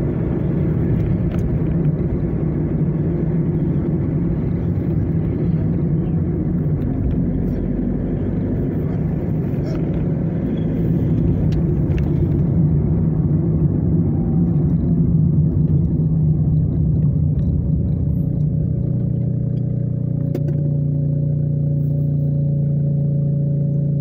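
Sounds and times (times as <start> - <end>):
car engine and road rumble: 0.0 - 24.0
car engine idling hum: 0.0 - 24.0.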